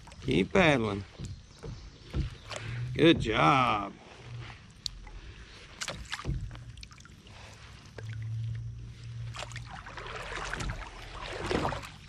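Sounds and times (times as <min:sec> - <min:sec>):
low steady hum: 0:00.0 - 0:12.0
paddle splashing in water: 0:00.0 - 0:12.0.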